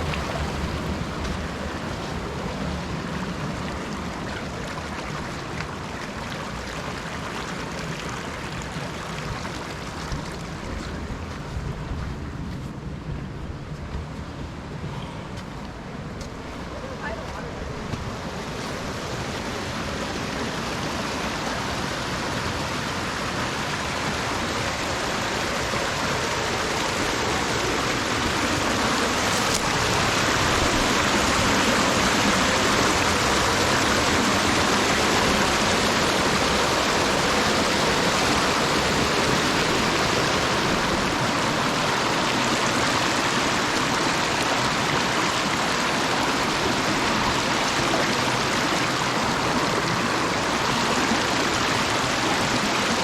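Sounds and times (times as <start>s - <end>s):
creek water rushing: 0.0s - 13.1s, 14.6s - 53.0s.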